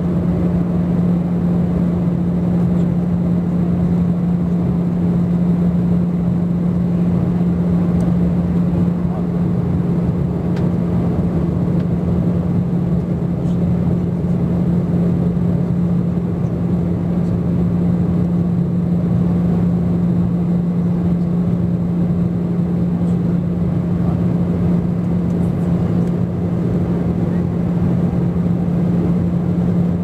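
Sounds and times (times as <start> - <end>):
airplane cabin engine and airflow rush: 0.0 - 30.0
constant low hum: 0.0 - 30.0.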